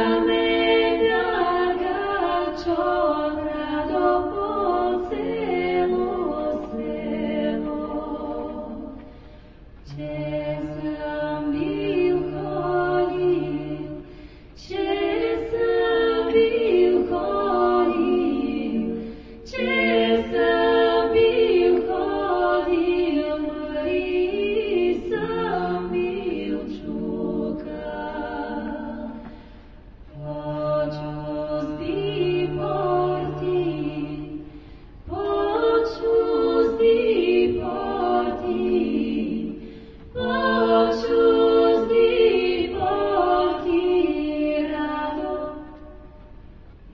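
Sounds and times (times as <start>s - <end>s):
choir singing unaccompanied: 0.0s - 9.2s, 9.8s - 29.5s, 30.1s - 46.2s.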